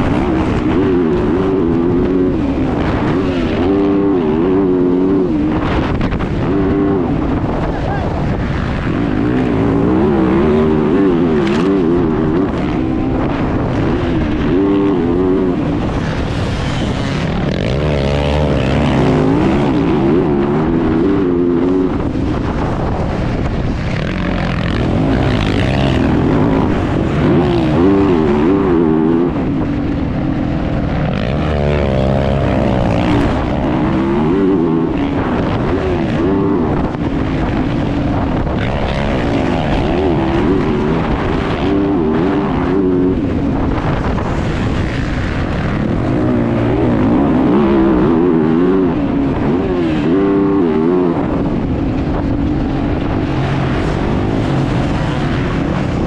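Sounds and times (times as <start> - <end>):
motocross bike engine racing: 0.0 - 56.0.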